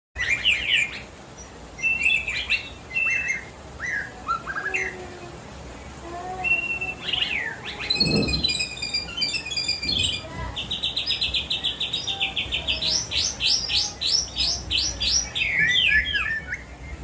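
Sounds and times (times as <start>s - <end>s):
songbird singing whistles: 0.2s - 5.0s, 6.4s - 17.0s.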